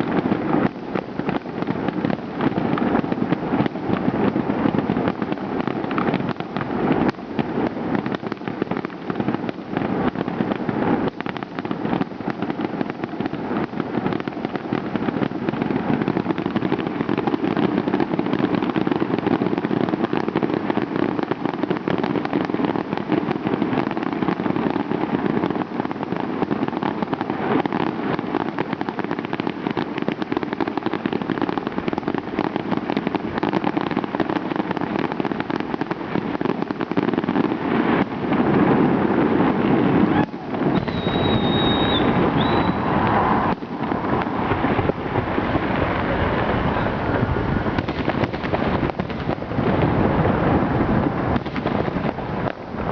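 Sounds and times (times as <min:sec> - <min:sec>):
fireworks crackling and popping: 0:00.0 - 0:52.9.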